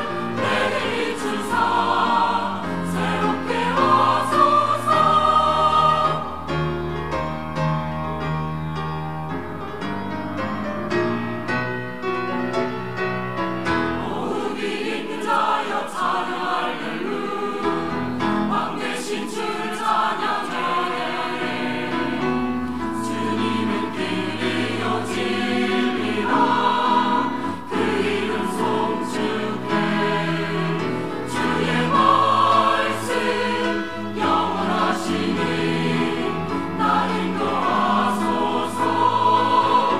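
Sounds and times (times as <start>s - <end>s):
choir singing in parts: 0.0s - 7.1s, 13.8s - 39.9s.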